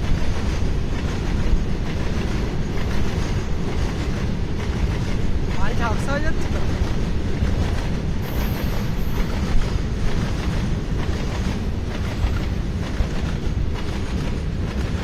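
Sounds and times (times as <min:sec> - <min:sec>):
freight train rumbling: 0:00.0 - 0:15.0
wheels knocking on rails: 0:00.0 - 0:15.0.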